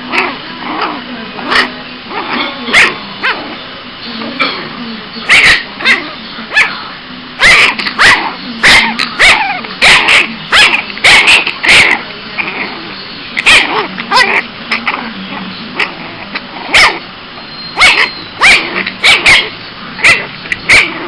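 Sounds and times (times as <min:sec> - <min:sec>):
puppy yapping: 0:00.0 - 0:03.6, 0:05.2 - 0:21.0.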